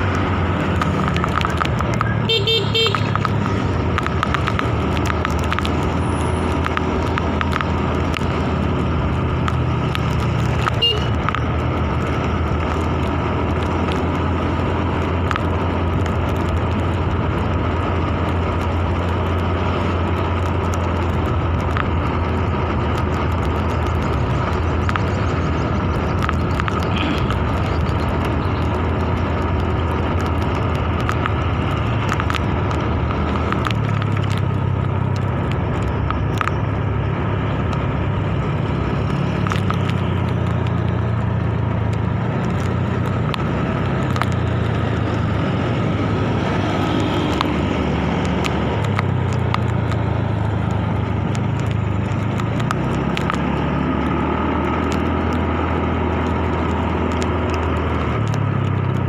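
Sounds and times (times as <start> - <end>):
motorcycle engine: 0.0 - 59.0
road noise: 0.0 - 59.0.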